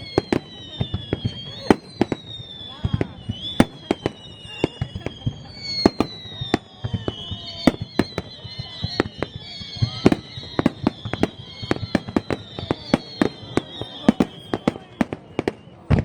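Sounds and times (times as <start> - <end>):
high wavering whistling: 0.0 - 15.9
fireworks bangs: 0.0 - 16.0.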